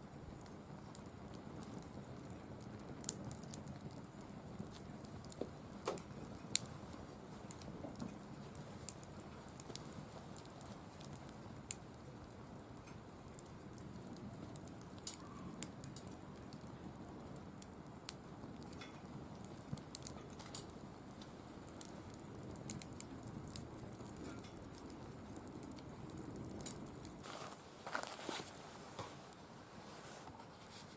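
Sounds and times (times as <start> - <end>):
fire burning: 0.0 - 30.9
firewood crackling and popping: 0.0 - 30.9.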